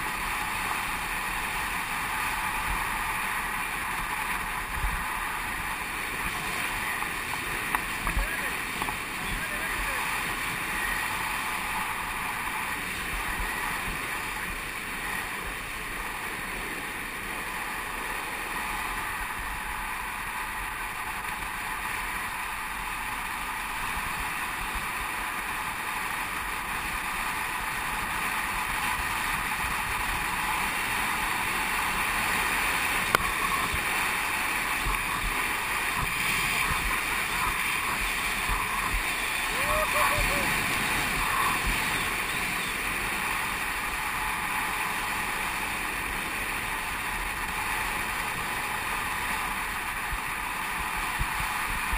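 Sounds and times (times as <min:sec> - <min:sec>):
skateboard wheels rolling on asphalt: 0:00.0 - 0:51.9.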